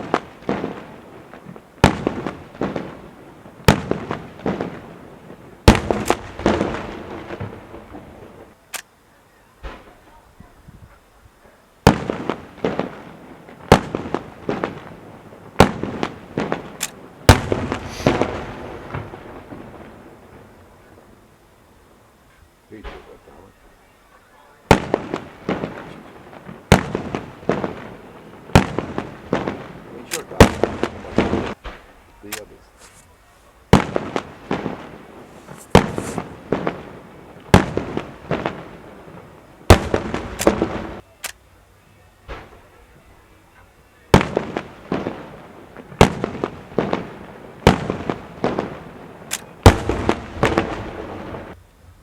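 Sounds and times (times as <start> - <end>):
fireworks exploding: 0.0 - 52.0.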